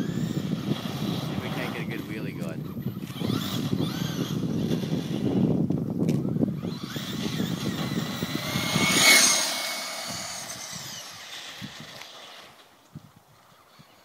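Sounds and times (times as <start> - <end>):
toy truck motor whining: 0.0 - 12.8.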